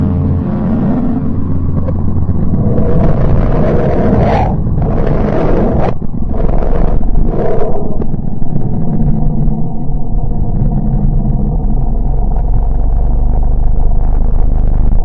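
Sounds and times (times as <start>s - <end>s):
deep rumbling noise with hiss: 0.0s - 15.0s.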